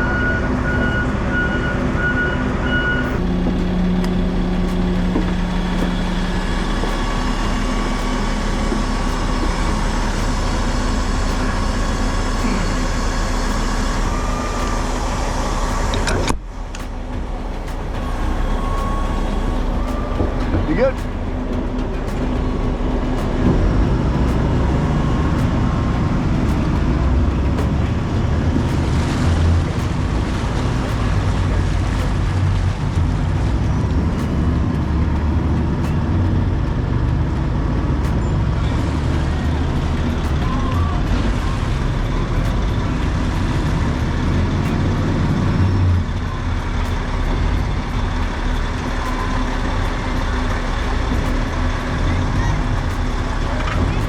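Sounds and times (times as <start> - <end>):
large engine rumbling: 0.0 - 54.0.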